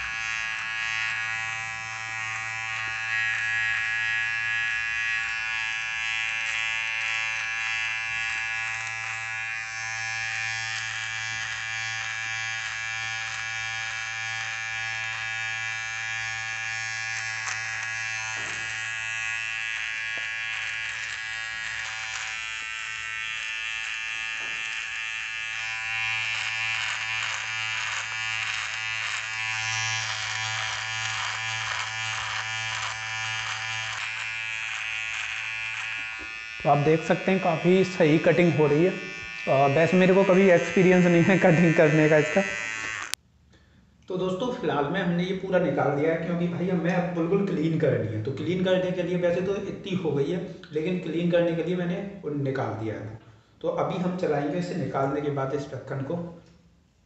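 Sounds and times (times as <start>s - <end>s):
electric beard trimmer buzzing: 0.0s - 43.2s, 45.4s - 51.8s.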